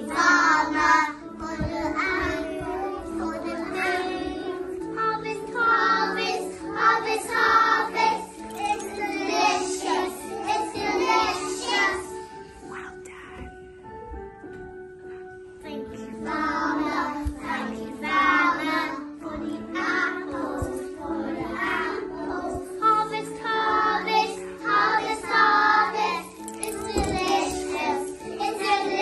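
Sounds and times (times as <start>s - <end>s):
children singing: 0.0s - 12.4s, 16.2s - 29.0s
musical accompaniment: 0.0s - 29.0s.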